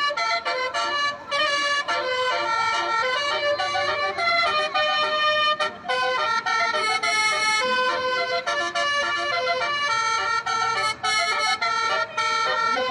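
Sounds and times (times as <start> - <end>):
multi-trumpet vehicle horn tune: 0.0 - 12.9.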